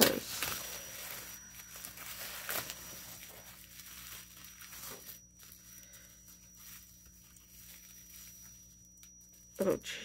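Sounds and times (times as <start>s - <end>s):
bubble wrap crinkling and tearing: 0.0s - 9.6s.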